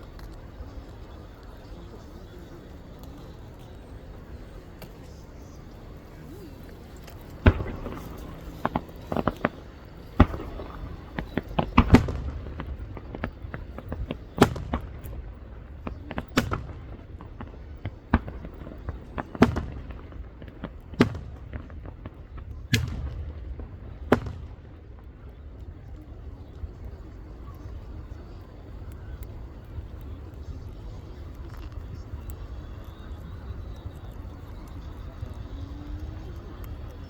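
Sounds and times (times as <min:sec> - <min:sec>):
fireworks bursting with booms: 0:04.8 - 0:37.0.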